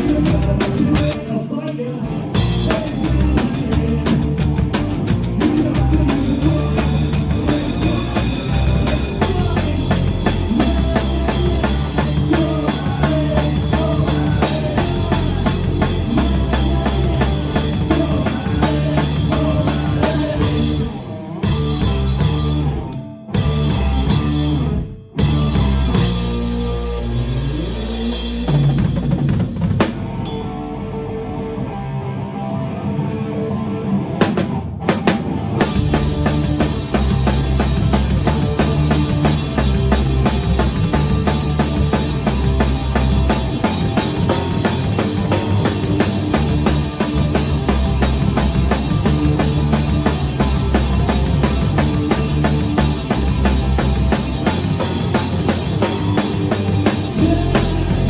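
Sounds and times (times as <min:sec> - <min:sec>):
live rock band playing: 0:00.0 - 0:01.4, 0:02.0 - 0:58.0.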